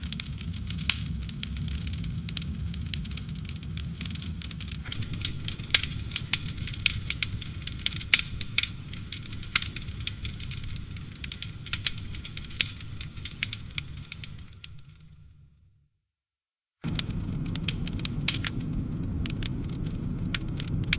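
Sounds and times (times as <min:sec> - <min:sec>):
campfire crackling and popping: 0:00.0 - 0:15.4, 0:16.8 - 0:20.9
low rumble of flames: 0:00.0 - 0:15.6, 0:16.8 - 0:20.9.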